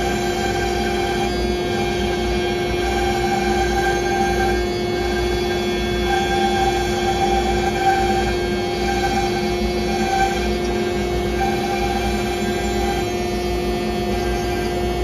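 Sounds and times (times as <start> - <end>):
router spindle cutting wood: 0.0 - 15.0.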